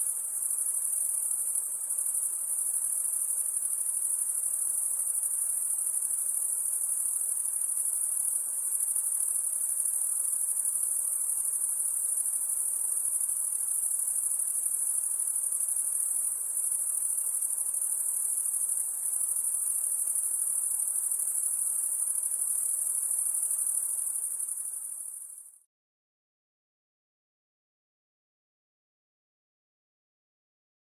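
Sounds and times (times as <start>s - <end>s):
crickets trilling: 0.1s - 25.4s.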